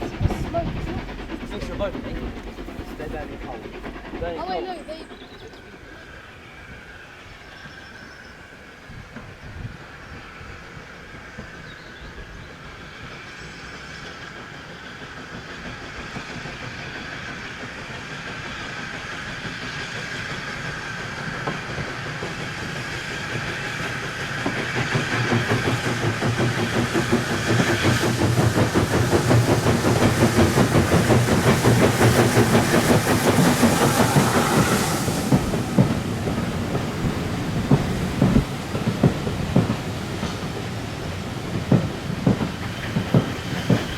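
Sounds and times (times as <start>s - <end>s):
high steam hiss: 0.0s - 43.9s
steam train passing: 0.0s - 43.9s.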